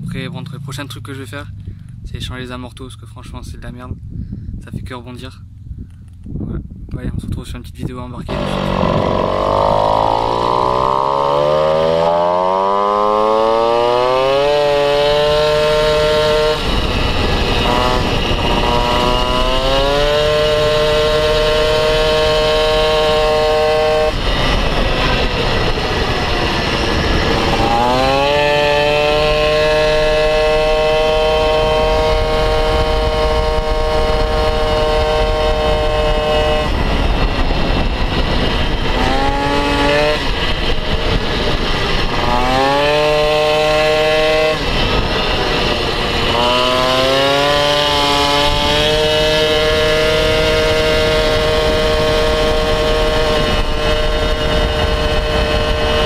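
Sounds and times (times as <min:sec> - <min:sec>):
moped two-stroke engine revving: 0:08.3 - 0:56.0.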